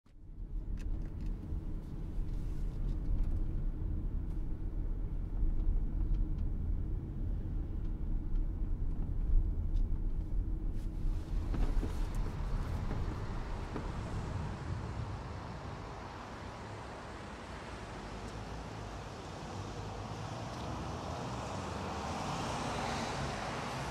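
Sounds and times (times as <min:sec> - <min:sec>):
car engine and road noise: 0:00.1 - 0:23.9.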